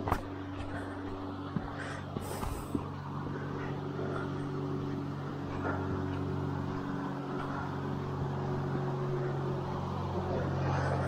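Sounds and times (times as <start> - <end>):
constant rushing background: 0.0 - 11.0
low motor hum: 0.0 - 11.0.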